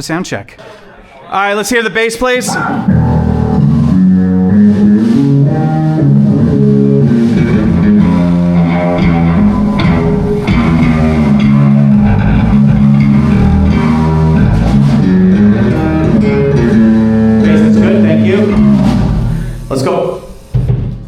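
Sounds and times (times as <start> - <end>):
electric bass guitar notes: 2.4 - 21.0.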